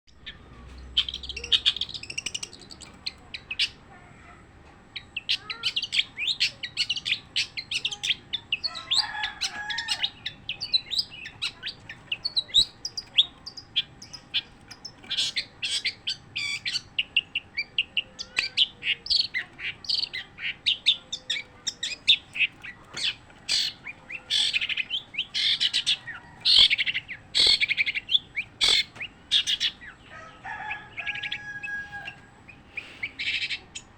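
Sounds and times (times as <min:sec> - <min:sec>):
bird singing rapid chirps: 0:00.2 - 0:03.8, 0:05.0 - 0:30.1.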